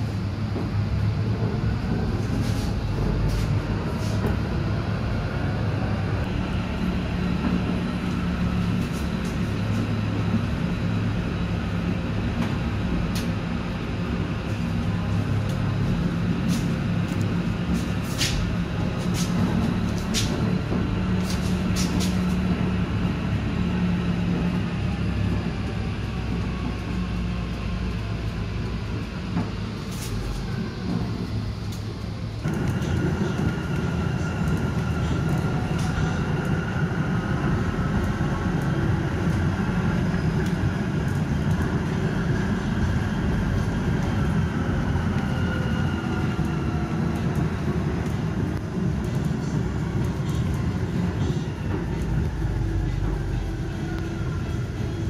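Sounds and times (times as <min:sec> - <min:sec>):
tram wheels rumbling on rails: 0:00.0 - 0:55.0.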